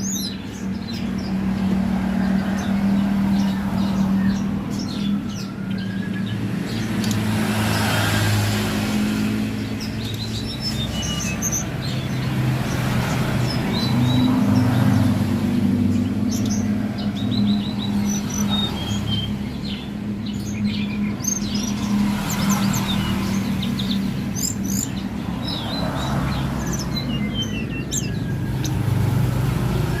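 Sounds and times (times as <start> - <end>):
songbird chirping and trilling: 0.0 - 30.0.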